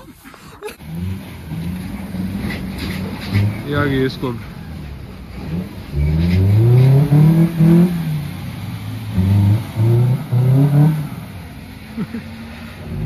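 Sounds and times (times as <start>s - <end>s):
car engine revving hard: 0.8s - 4.3s, 5.3s - 13.0s.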